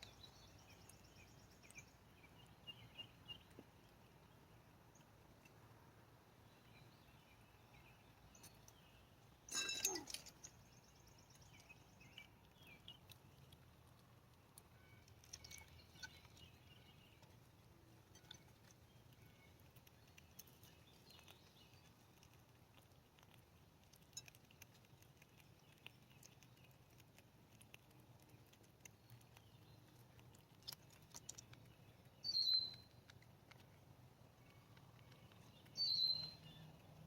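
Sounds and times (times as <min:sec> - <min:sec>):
rodents nibbling and scratching: 0:00.0 - 0:37.0.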